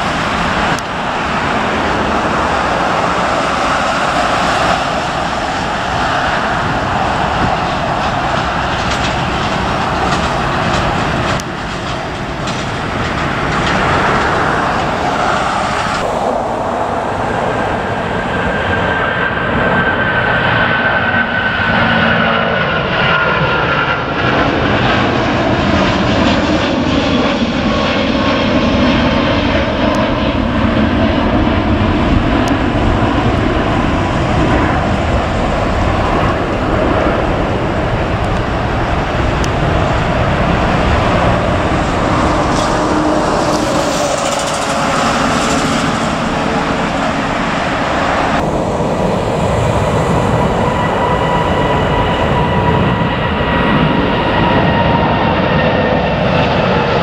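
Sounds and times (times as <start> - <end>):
jet engine whine: 0.0 - 57.0
jet engines roaring: 0.0 - 57.0.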